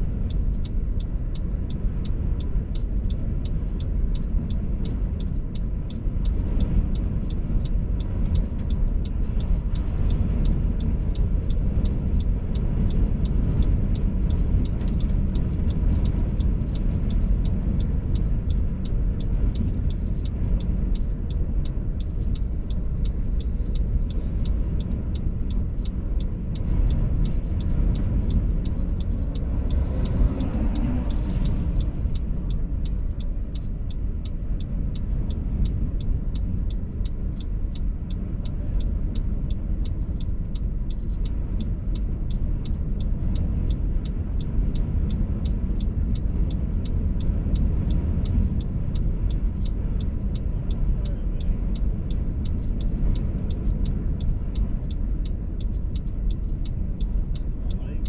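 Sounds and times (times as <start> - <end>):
gusty wind buffeting a car: 0.0 - 50.9, 51.6 - 57.6
light even ticking: 0.0 - 58.0.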